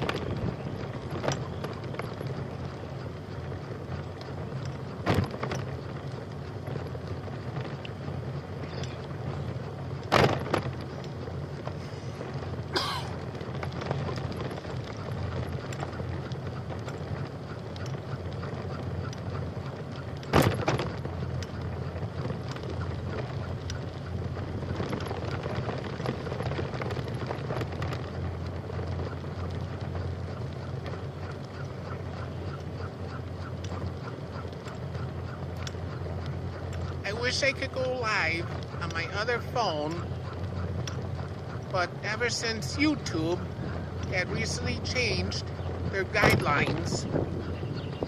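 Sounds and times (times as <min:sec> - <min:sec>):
bicycle rolling rumble: 0:00.0 - 0:48.0.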